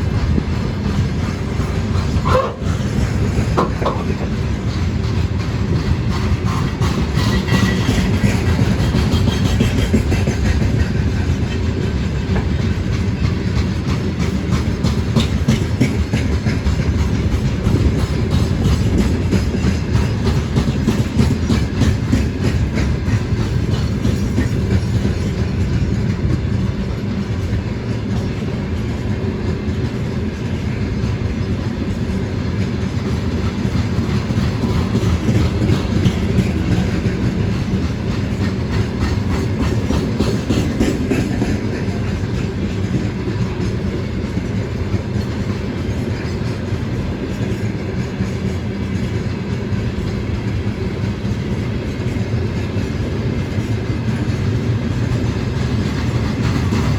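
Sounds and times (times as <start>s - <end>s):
freight train rumble: 0.0s - 56.9s
wheels clacking over rail joints: 0.0s - 56.9s.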